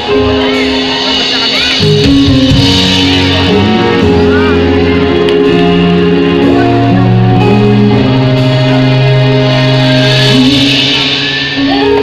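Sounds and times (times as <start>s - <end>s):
bass guitar: 0.0s - 12.0s
drums: 0.0s - 12.0s
electric guitar: 0.0s - 12.0s.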